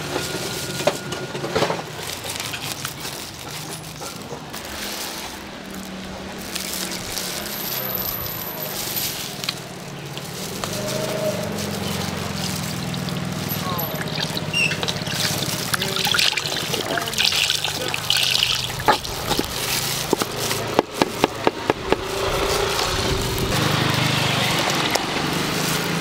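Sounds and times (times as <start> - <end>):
faint voices: 1.8 - 26.0.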